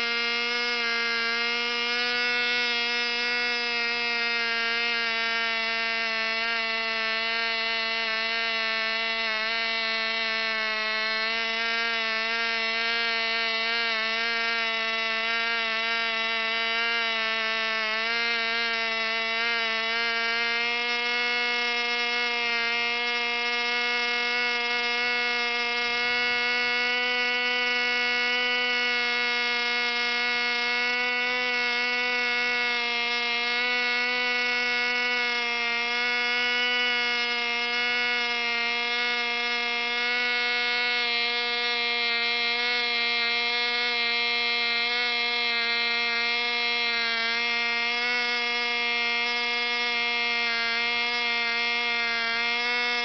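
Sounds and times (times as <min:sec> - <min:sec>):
model engine high-pitched buzz: 0:00.0 - 0:53.0.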